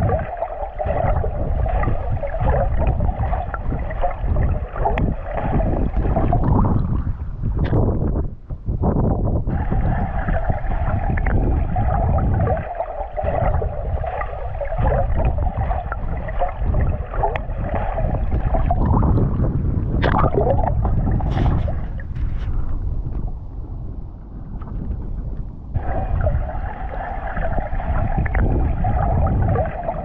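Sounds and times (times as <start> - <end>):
water splashes and drips: 0.0 - 7.9, 9.5 - 22.6, 24.6 - 30.0
underwater gurgling and sloshing: 0.0 - 30.0.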